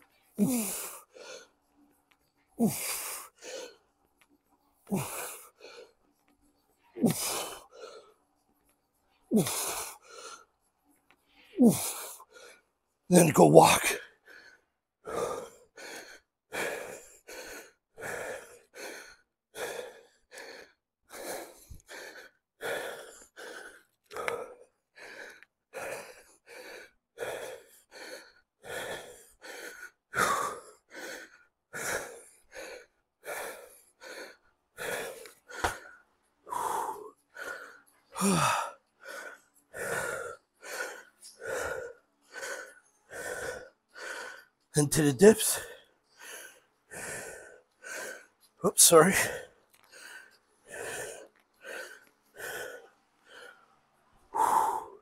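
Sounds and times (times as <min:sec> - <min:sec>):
man panting: 0:00.4 - 0:01.6, 0:02.6 - 0:03.8, 0:04.8 - 0:06.0, 0:07.0 - 0:08.2, 0:09.3 - 0:10.5, 0:11.5 - 0:55.0.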